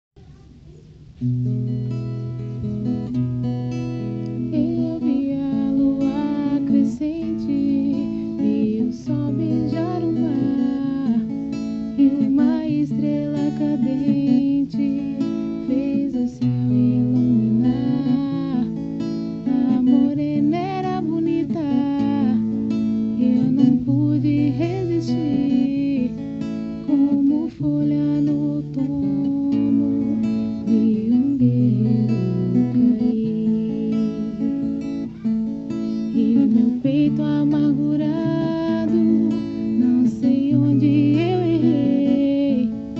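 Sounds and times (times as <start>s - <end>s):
slow acoustic guitar melody: 0.2s - 42.9s.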